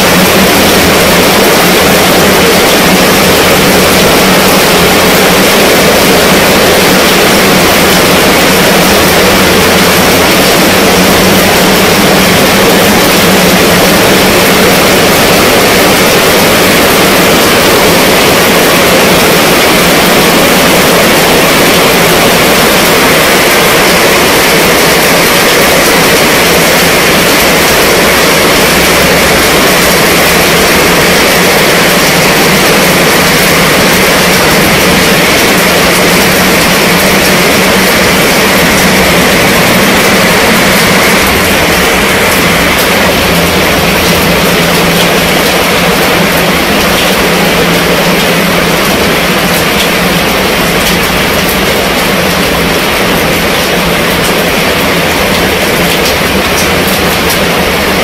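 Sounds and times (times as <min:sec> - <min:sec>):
heavy rain on tent roof: 0:00.0 - 0:58.0.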